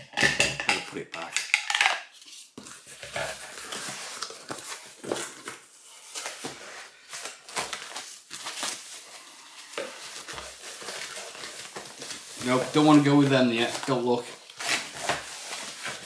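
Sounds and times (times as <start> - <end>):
tissue paper rustling: 2.2 - 16.0.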